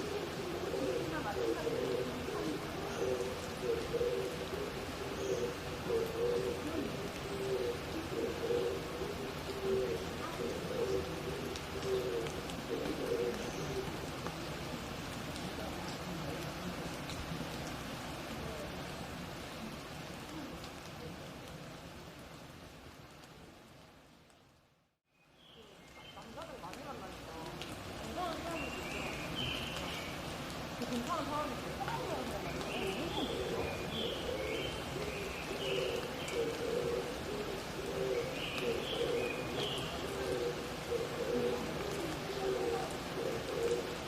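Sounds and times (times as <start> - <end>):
doves cooing: 0.0 - 21.5, 26.2 - 44.0
rain patter: 0.0 - 44.0
water dripping: 0.1 - 22.0, 25.4 - 44.0.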